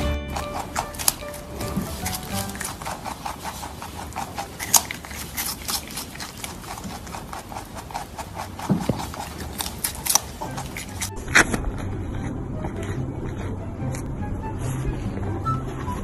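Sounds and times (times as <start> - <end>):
rabbit crunching vegetables: 0.0 - 16.0.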